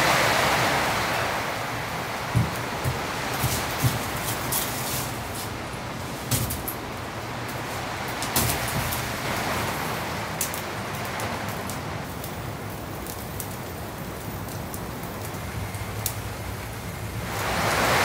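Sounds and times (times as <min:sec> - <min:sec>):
heavy rain pouring: 0:00.0 - 0:18.0
wood fire crackling: 0:00.0 - 0:18.0.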